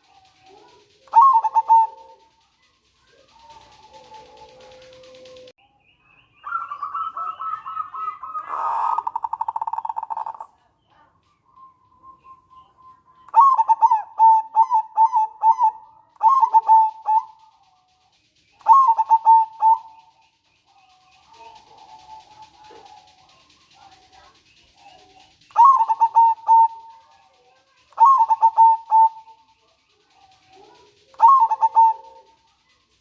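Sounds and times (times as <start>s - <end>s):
dove cooing: 0.0s - 5.5s, 6.4s - 11.4s, 12.0s - 33.0s.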